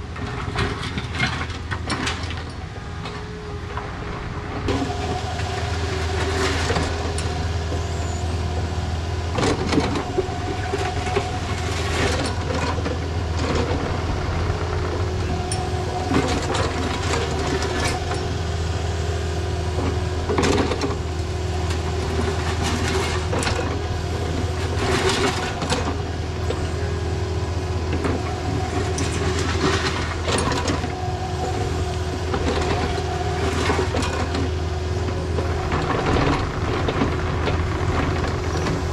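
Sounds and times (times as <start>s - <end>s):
excavator diesel engine: 0.0s - 38.9s
hydraulic whine: 2.6s - 38.9s.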